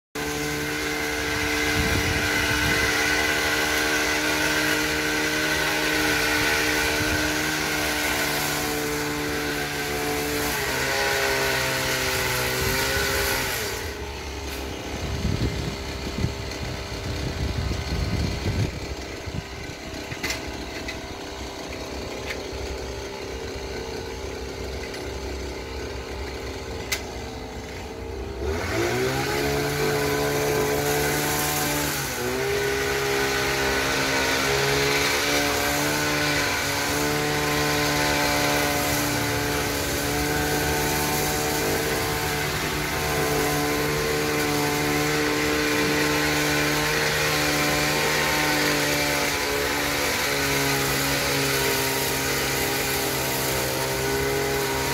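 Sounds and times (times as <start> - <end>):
hedge trimmer engine revving: 0.2 - 54.9.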